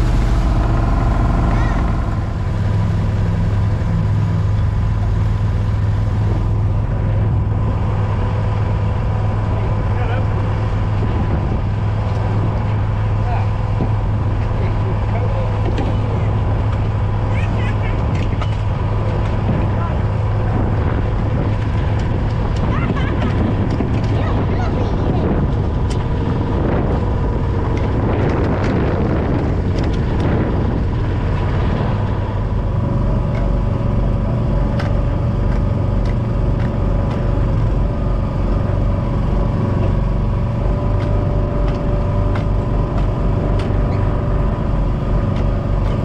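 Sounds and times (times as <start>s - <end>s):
boat engine hum: 0.0s - 46.0s
hydraulic hauler whine: 0.0s - 46.0s.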